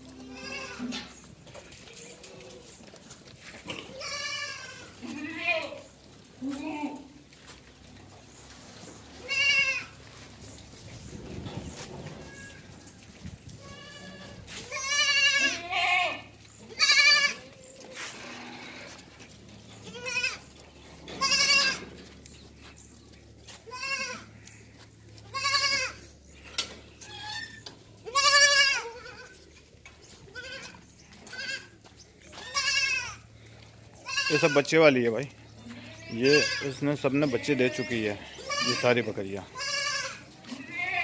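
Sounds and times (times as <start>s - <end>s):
goats bleating: 0.0s - 2.8s, 3.4s - 7.5s, 9.1s - 10.2s, 13.5s - 22.1s, 23.5s - 26.2s, 26.8s - 34.9s, 35.5s - 41.0s.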